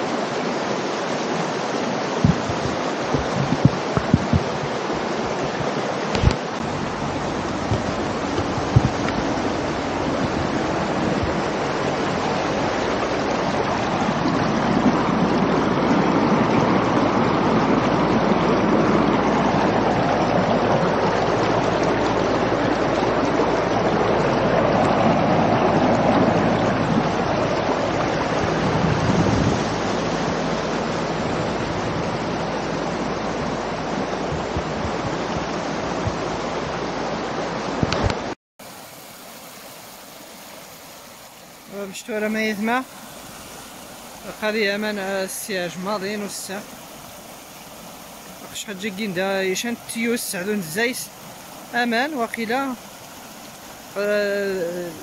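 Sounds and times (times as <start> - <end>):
floodwater rushing down gravel channel: 0.0 - 55.0.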